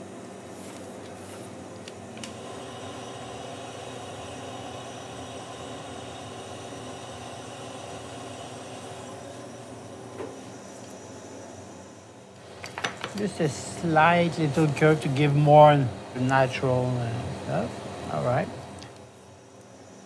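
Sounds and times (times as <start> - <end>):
gas burner roaring: 0.0 - 20.0.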